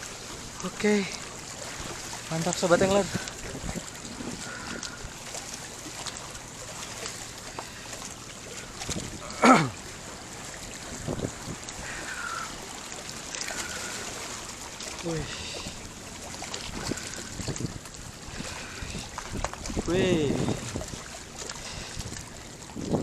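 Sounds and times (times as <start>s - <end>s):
water splashing and lapping: 0.0s - 23.0s.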